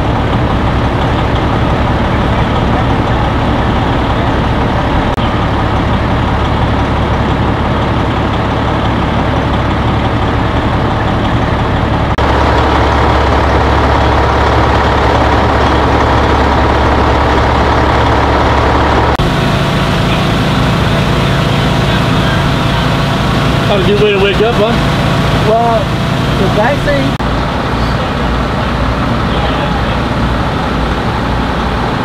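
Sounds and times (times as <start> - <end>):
fire engine running: 0.0 - 32.0.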